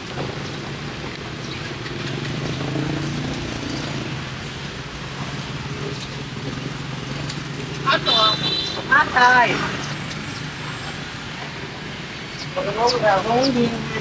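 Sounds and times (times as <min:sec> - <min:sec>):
street noise: 0:00.0 - 0:14.0
vehicle engine humming: 0:00.0 - 0:14.0.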